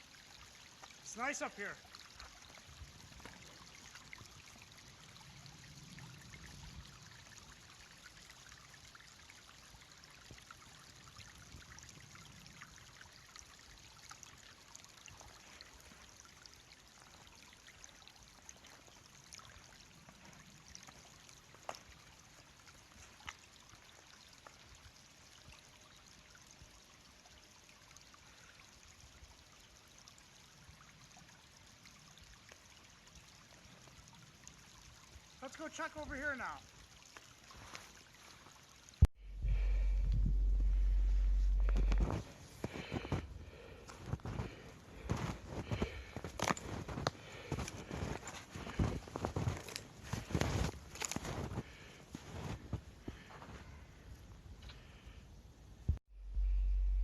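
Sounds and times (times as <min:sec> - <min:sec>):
stream running under ice: 0:00.0 - 0:56.0.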